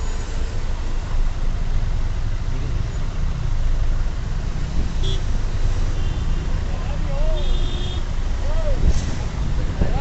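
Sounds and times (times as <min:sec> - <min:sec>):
road traffic rumble: 0:00.0 - 0:10.0
vehicle engines running: 0:00.0 - 0:10.0.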